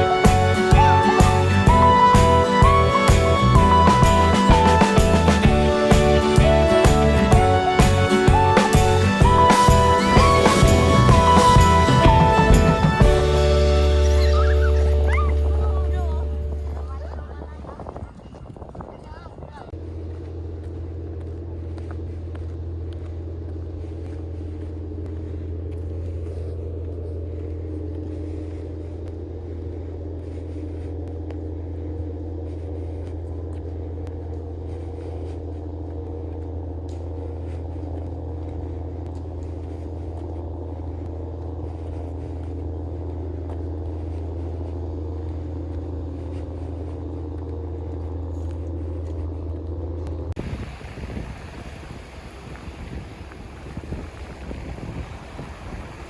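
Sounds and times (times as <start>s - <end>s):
constant low hum: 0.0s - 56.0s
motor vehicle rumble: 0.0s - 56.0s.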